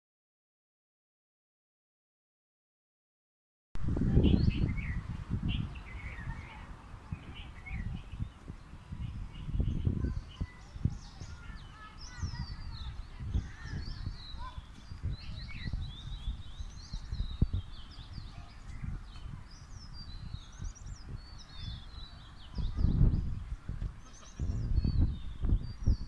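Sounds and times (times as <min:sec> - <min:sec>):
birds chirping and singing: 0:03.9 - 0:26.0.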